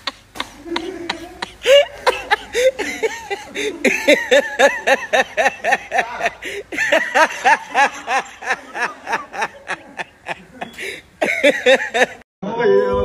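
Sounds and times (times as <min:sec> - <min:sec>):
person laughing hard: 0:00.0 - 0:12.2.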